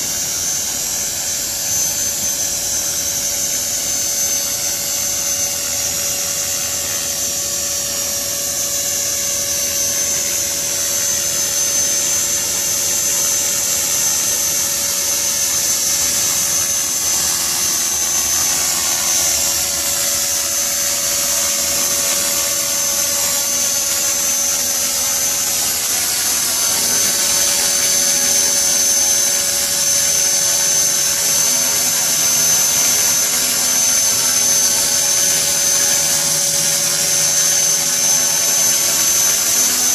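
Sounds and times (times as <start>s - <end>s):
rc helicopter whine: 0.0s - 39.9s.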